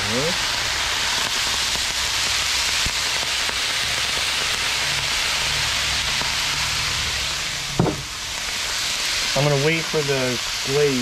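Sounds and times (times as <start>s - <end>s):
rice sizzling on a griddle: 0.0s - 11.0s.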